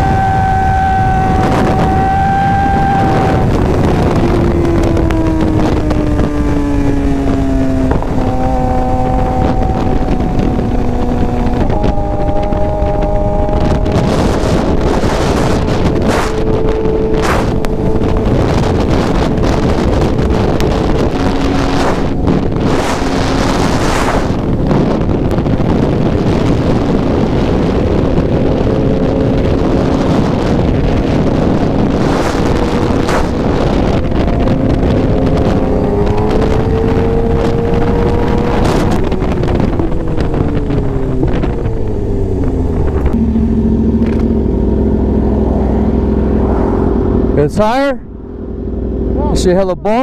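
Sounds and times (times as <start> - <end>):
motorcycle engine at speed: 0.0 - 50.0
wind noise on microphone: 0.0 - 50.0.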